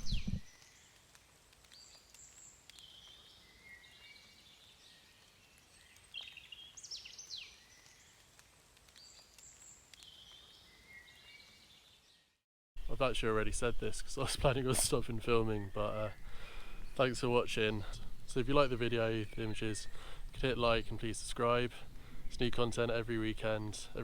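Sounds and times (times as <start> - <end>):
songbird singing: 0.0 - 1.0, 1.7 - 8.2, 9.0 - 24.0.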